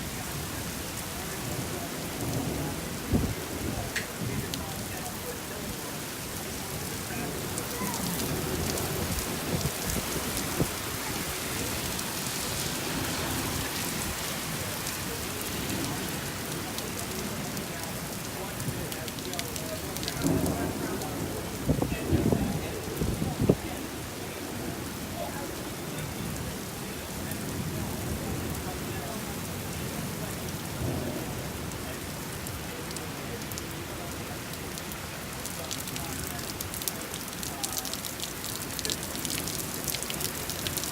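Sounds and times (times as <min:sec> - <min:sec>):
heavy rain beating on a surface: 0:00.0 - 0:40.9.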